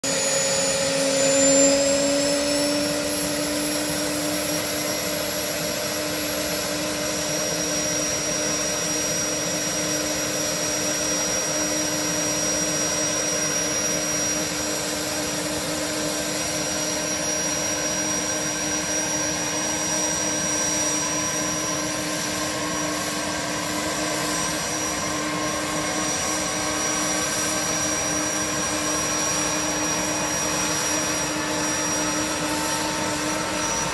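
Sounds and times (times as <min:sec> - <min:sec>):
helicopter engine hum: 0:00.0 - 0:33.9
helicopter engine whine: 0:00.0 - 0:33.9.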